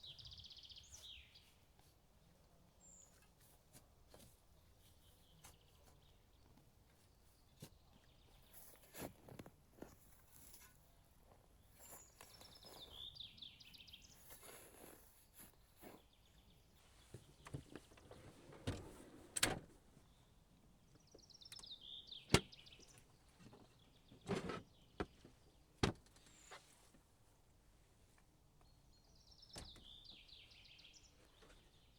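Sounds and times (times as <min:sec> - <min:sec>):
songbird singing: 0:00.0 - 0:03.5, 0:04.6 - 0:10.0, 0:11.4 - 0:18.9, 0:20.0 - 0:26.6, 0:28.5 - 0:31.9.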